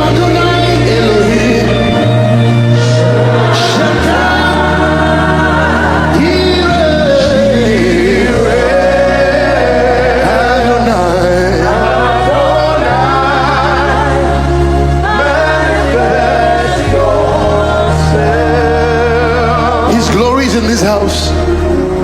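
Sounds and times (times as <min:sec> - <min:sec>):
held chords: 0:00.0 - 0:22.0
person singing wordless vocal: 0:00.0 - 0:22.0.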